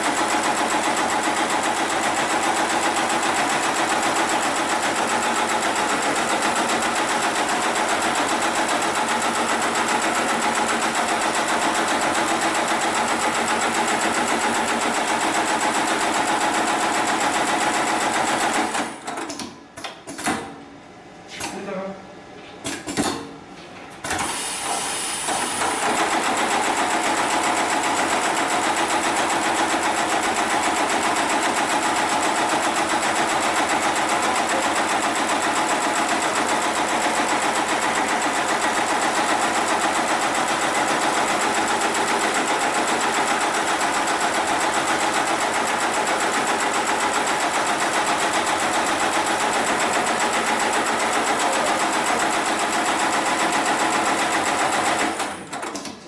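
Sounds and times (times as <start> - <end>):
sewing machine running: 0.0 - 19.3, 24.0 - 55.9.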